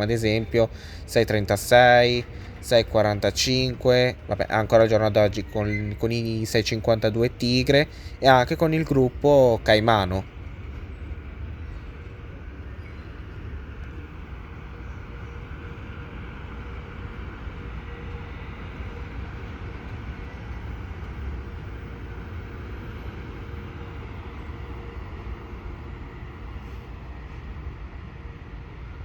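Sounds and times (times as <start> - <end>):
faint steady hum: 0.0 - 29.0
train running rumble: 0.0 - 29.0.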